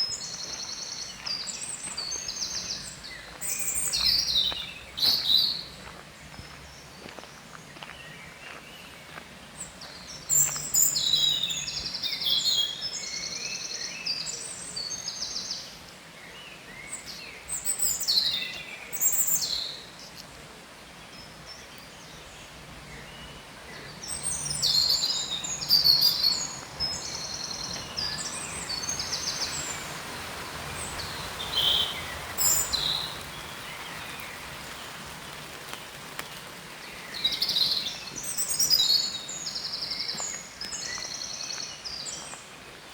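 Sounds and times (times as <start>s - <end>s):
outdoor background hiss: 0.0s - 42.9s
songbirds singing: 0.0s - 42.9s.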